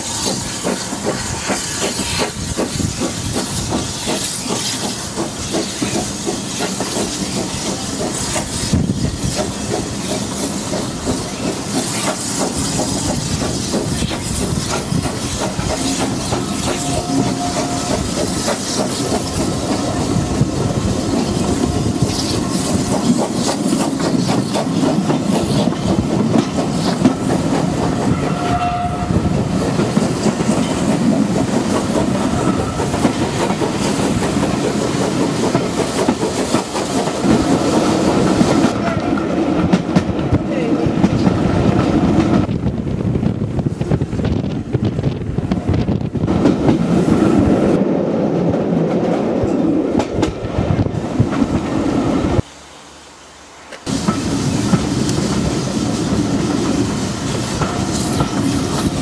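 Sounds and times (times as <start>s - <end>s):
train wheels clattering over rails: 0.0s - 52.4s, 53.7s - 59.0s.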